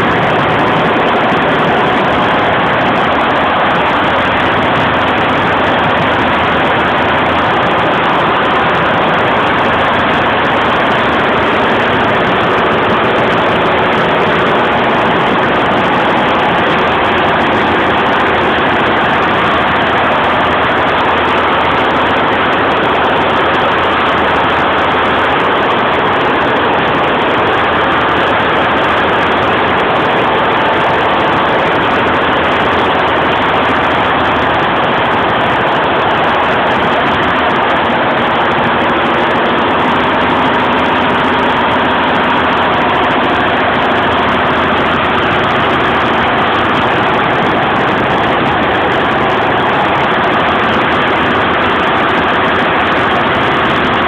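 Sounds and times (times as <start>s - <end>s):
embroidery machine running: 0.0s - 54.0s.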